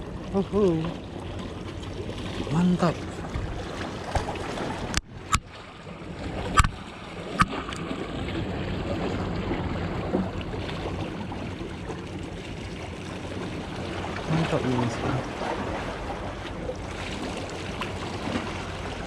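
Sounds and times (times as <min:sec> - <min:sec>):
water lapping around boat: 0:00.0 - 0:19.0.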